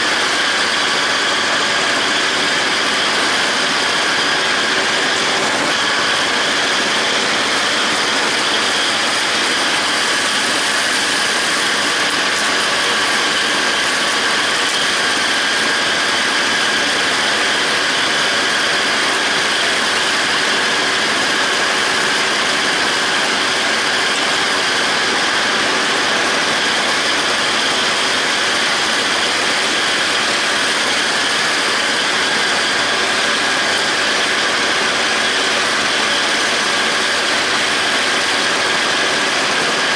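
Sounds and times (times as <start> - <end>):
mower cutter discs whirring: 0.0 - 39.9
steady whine: 0.0 - 39.9
tractor engine under load: 0.0 - 39.9.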